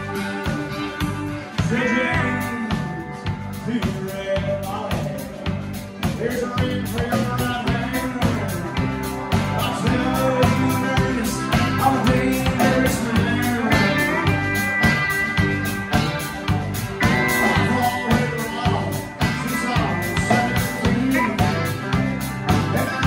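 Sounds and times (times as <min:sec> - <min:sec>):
country-rock band playing: 0:00.0 - 0:23.0
drum kit fast beat: 0:00.0 - 0:23.0.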